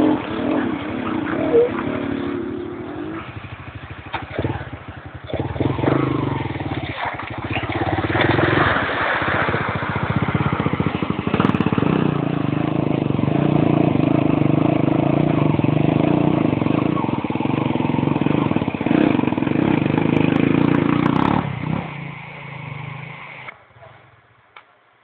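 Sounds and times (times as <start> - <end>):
water splashing: 0.0 - 23.5
quad engine running under load: 0.0 - 23.6.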